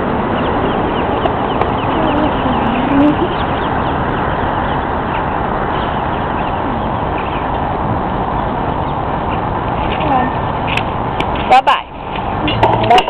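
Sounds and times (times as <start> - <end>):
small birds chirping: 0.0 - 13.0
wind rumbling on microphone: 0.0 - 13.0.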